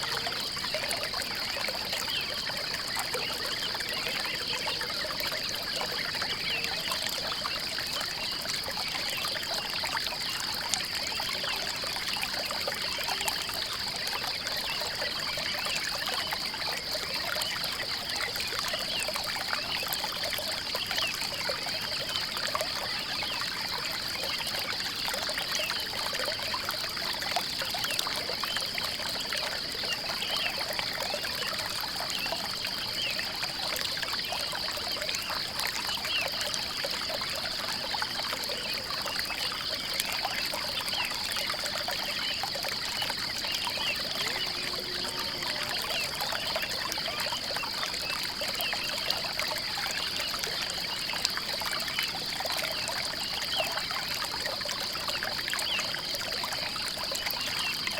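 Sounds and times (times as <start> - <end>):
water trickling over stones: 0.0 - 57.9.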